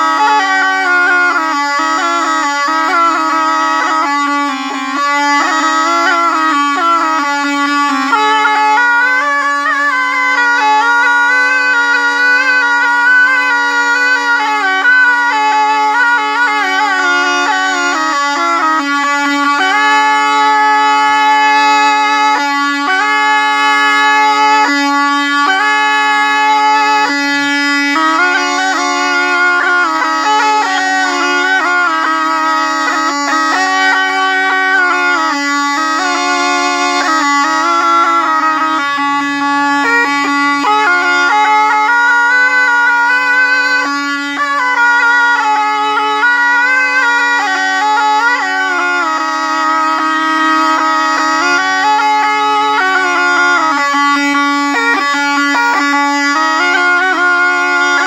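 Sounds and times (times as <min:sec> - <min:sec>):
double reed pipe playing melody: 0:00.0 - 0:58.0.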